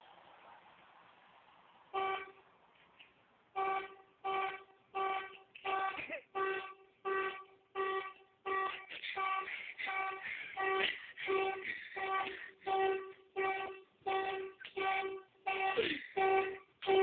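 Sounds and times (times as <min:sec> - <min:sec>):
car alarm horn honks: 0:02.0 - 0:02.4, 0:03.6 - 0:17.0.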